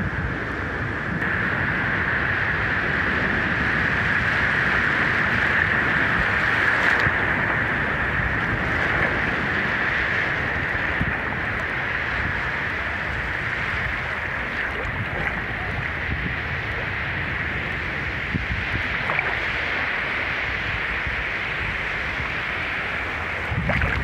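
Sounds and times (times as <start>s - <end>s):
surf washing over shore: 0.0s - 24.0s.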